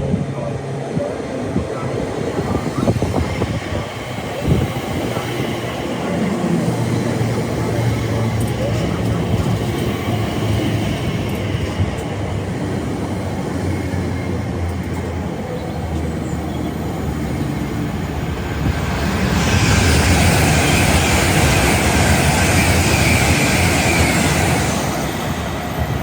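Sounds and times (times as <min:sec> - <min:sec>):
train rumbling: 0:00.0 - 0:26.0
train rushing past at speed: 0:00.0 - 0:26.0.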